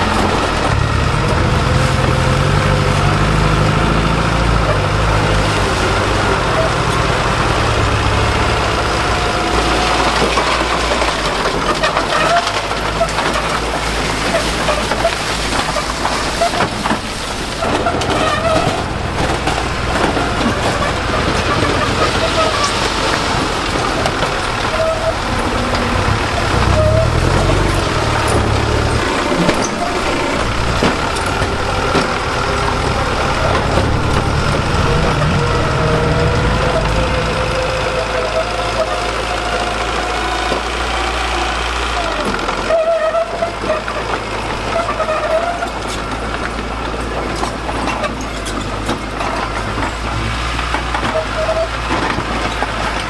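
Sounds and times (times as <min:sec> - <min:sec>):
high-pitched squeaks: 0:00.0 - 0:46.2
diesel engine running under load: 0:00.0 - 0:53.0.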